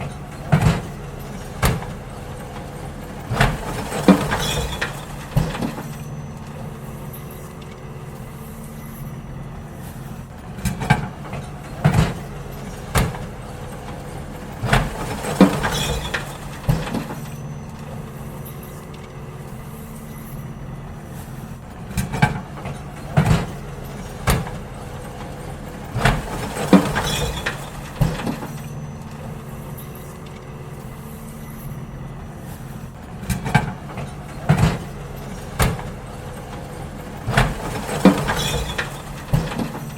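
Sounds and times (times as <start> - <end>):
bins banging and clattering: 0.0 - 39.9
garbage truck engine running: 0.0 - 39.9.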